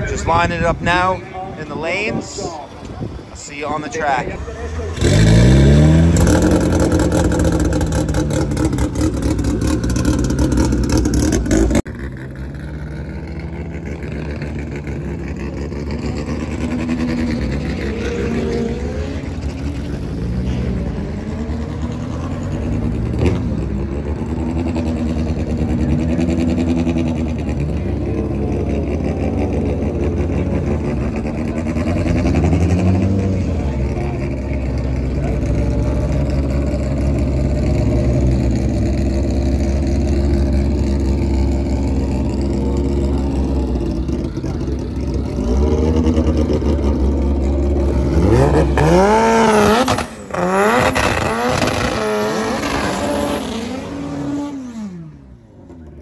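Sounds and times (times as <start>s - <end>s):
drag car engines revving: 0.0s - 56.0s
turbocharged engine throttle blips: 0.0s - 56.0s.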